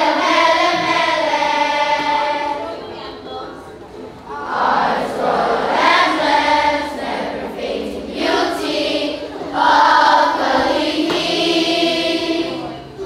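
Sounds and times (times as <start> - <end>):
children singing in unison: 0.0 - 2.9, 4.3 - 13.0.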